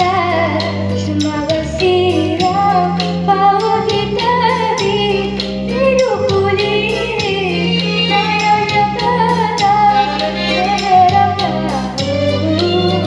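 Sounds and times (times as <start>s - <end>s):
backing track with bass and beat: 0.0s - 13.0s
person singing: 0.0s - 13.0s.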